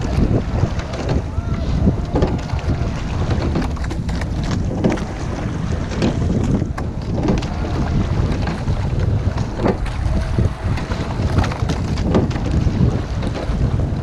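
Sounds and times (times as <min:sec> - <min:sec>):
water rushing around boat: 0:00.0 - 0:14.0
wind buffeting microphone: 0:00.0 - 0:14.0.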